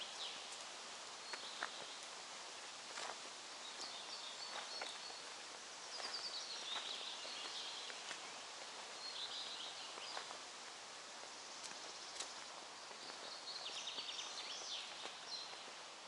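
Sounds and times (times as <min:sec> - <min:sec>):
background hiss: 0:00.0 - 0:16.0
songbirds chirping: 0:00.0 - 0:16.0.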